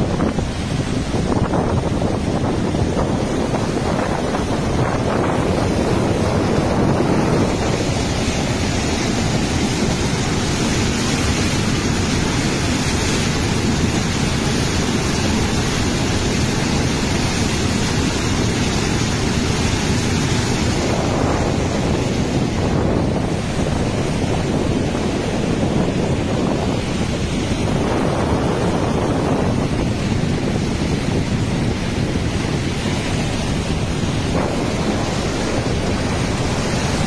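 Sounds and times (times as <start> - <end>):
water rushing through dam gate: 0.0 - 37.0.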